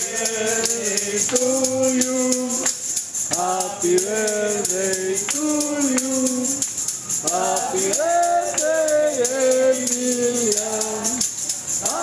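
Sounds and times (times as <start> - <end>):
group singing: 0.0 - 12.0
rhythmic hand clapping: 0.0 - 12.0.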